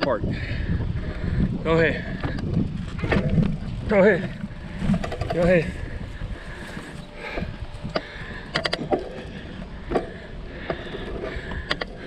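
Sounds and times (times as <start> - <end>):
wind rumble on microphone: 0.0 - 12.0
bicycle clicks and rattles: 2.0 - 12.0.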